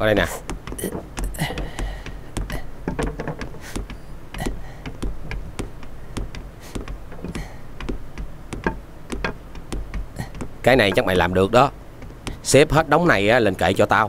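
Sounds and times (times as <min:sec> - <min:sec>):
boards and hand tools knocking: 0:00.0 - 0:14.0
low steady hum: 0:00.0 - 0:14.0.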